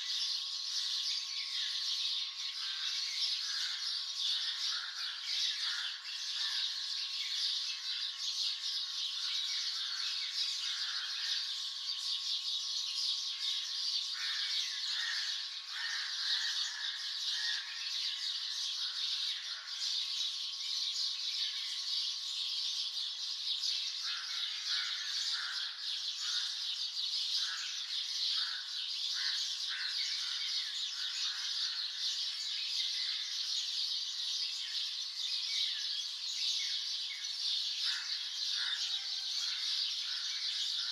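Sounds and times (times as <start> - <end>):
many birds chirping: 0.0 - 40.9.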